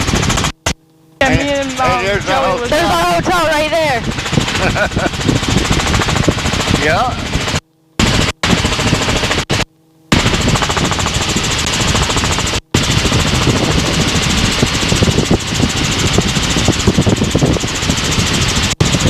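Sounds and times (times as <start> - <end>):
helicopter engine noise: 0.0 - 19.0
helicopter rotor chopping: 0.0 - 19.0.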